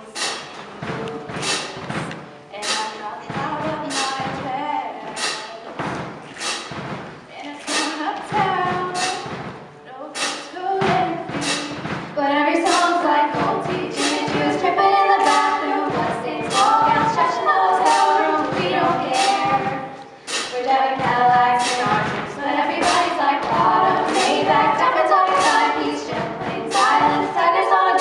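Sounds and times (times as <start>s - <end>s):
vocal group singing a cappella: 0.0s - 5.8s, 7.4s - 28.0s.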